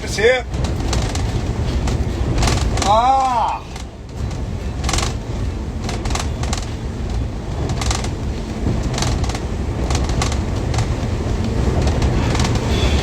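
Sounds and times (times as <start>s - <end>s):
wind noise on microphone: 0.0s - 3.0s, 3.6s - 13.0s
boat engine rumble: 0.0s - 13.0s.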